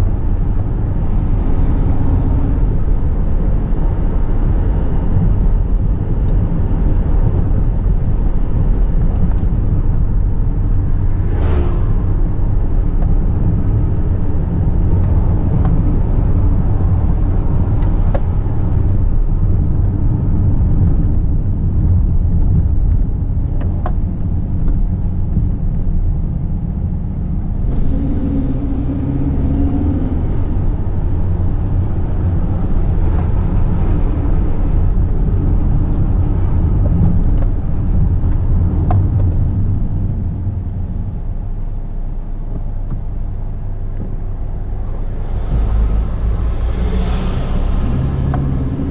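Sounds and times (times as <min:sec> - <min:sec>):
car engine rumble: 0:00.0 - 0:48.9
road noise: 0:00.0 - 0:48.9.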